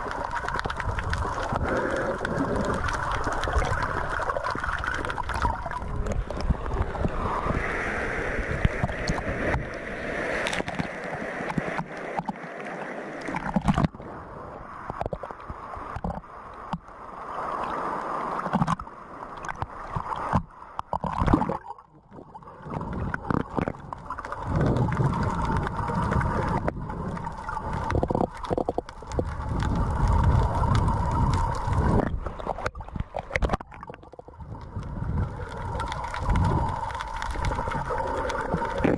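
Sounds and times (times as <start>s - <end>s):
sea water sloshing and gurgling: 0.0s - 38.9s.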